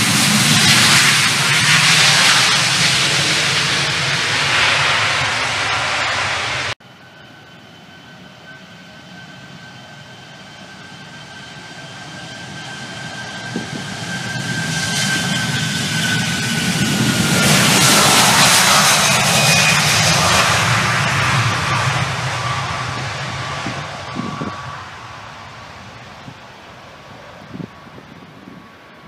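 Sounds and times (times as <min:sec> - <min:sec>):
jet engines roaring with whine: 0:00.0 - 0:29.0.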